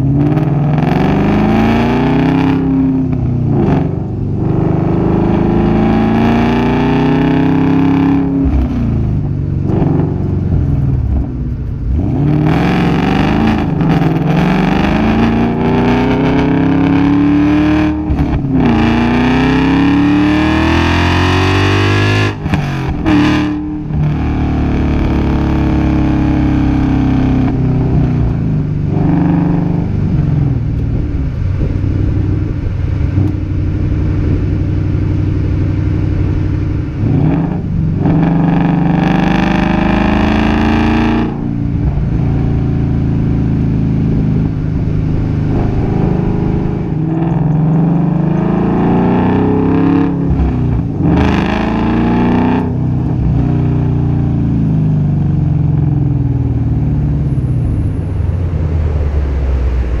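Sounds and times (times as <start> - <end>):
car engine revving through gears: 0.0 - 60.0.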